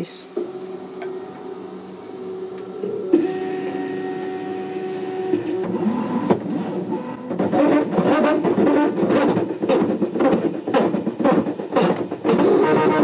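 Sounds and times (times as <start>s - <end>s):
stepper motors whining: 0.4s - 13.0s.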